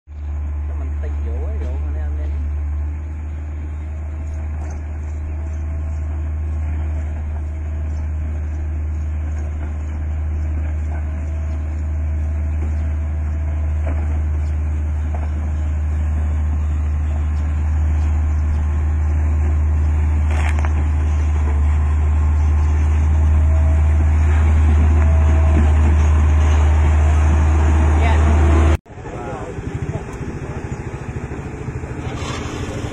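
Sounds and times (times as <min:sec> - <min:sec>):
diesel engine rumbling: 0:00.1 - 0:32.9.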